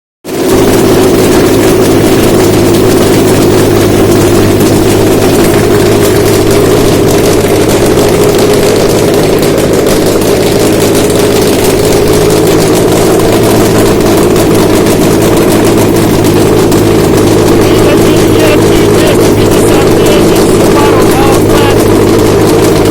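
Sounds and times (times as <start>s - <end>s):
car engine idling: 0.3s - 22.9s.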